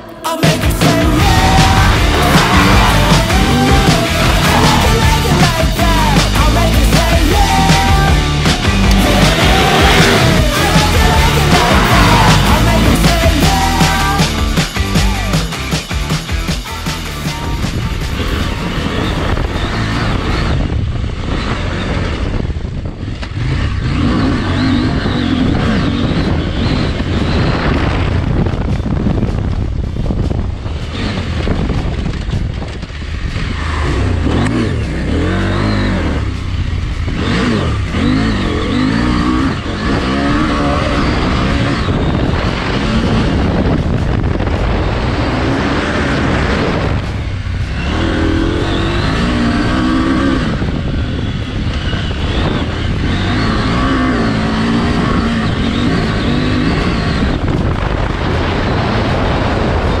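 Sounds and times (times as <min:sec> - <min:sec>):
motorcycle engine revving: 0:00.0 - 1:00.0
wind noise on microphone: 0:00.7 - 1:00.0.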